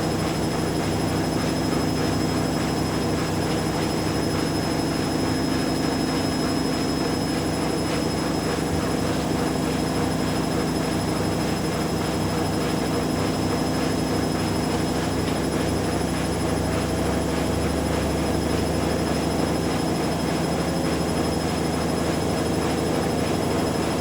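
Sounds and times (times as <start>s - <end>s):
washing machines spinning: 0.0s - 24.0s.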